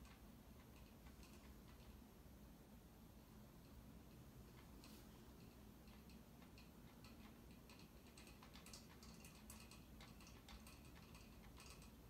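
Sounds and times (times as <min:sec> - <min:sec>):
ceiling fan motor hum: 0:00.0 - 0:12.0
fan ticking and clicking: 0:00.0 - 0:12.0.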